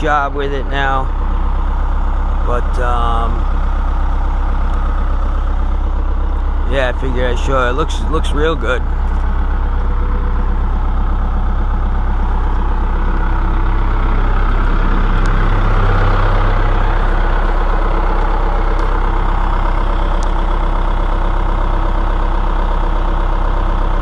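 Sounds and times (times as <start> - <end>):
excavator diesel engine idling: 0.0 - 24.0.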